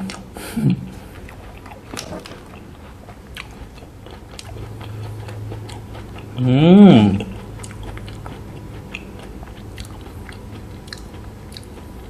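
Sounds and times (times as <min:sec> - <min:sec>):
low steady hum: 0:00.0 - 0:12.0
chewing with soft crunches: 0:00.9 - 0:12.0.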